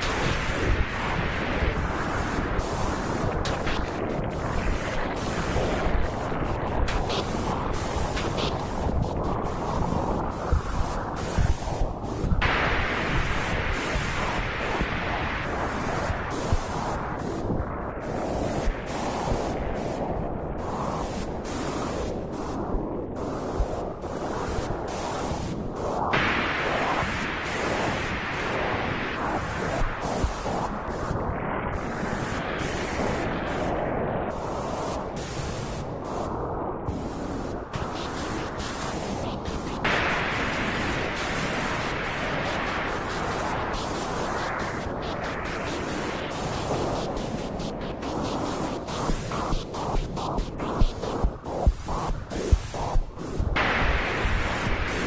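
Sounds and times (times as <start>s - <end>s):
rushing white noise: 0.0s - 22.6s, 23.2s - 55.0s.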